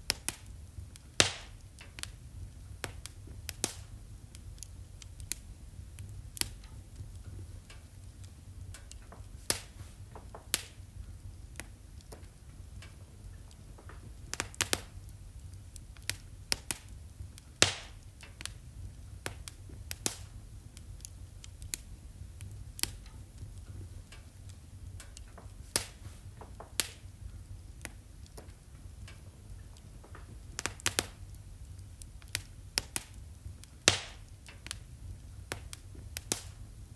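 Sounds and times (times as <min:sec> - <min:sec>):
fire crackling and popping: 0:00.0 - 0:36.9
low steady rumble: 0:00.0 - 0:36.9.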